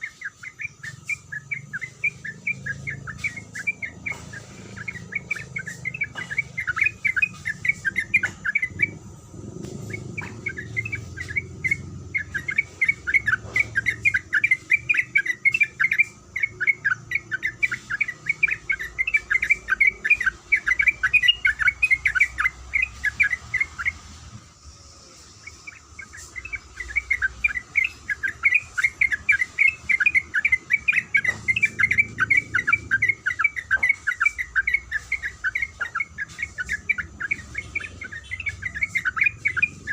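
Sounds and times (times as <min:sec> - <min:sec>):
bird chattering calls: 0:00.0 - 0:24.1, 0:24.9 - 0:39.9.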